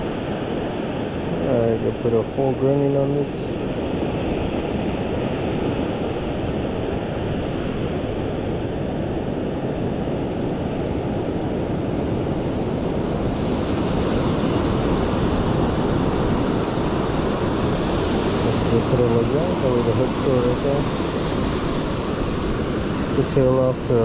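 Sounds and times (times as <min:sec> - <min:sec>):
ocean surf washing on beach: 0:00.0 - 0:24.0
wind on microphone: 0:00.0 - 0:24.0.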